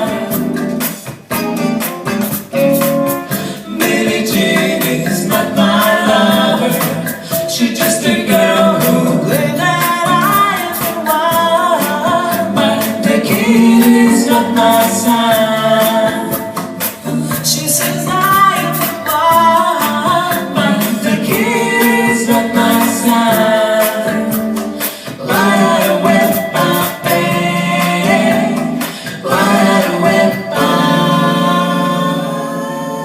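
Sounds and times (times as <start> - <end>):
women singing in harmony: 0.0 - 1.0, 3.3 - 33.0.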